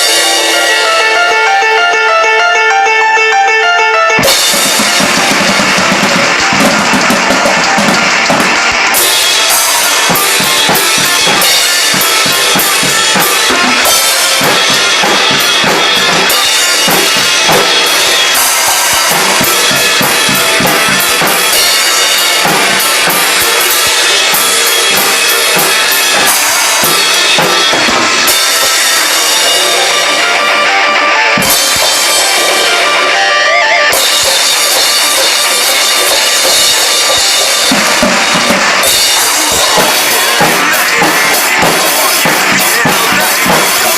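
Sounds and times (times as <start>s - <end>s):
drum kit rock beat: 0.0s - 43.9s
recorded music: 0.0s - 43.9s.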